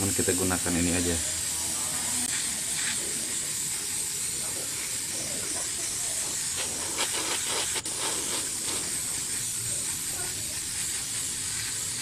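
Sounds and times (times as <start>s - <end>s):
airbrush hissing: 0.0s - 12.0s.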